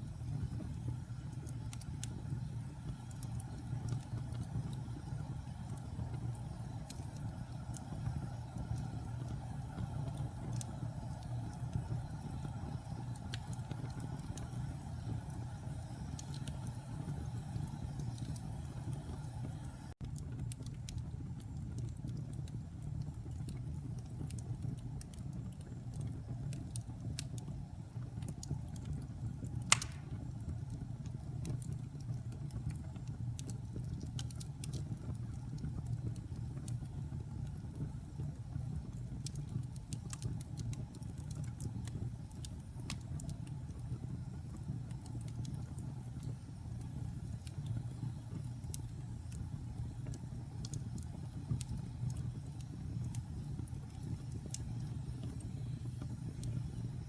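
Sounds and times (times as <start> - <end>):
fire crackling: 0.0 - 57.0
fire rumbling: 0.0 - 57.0.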